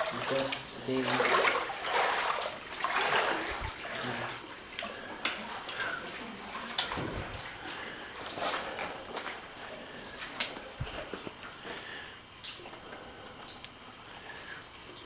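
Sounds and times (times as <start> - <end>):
shallow water splashing: 0.0 - 12.8.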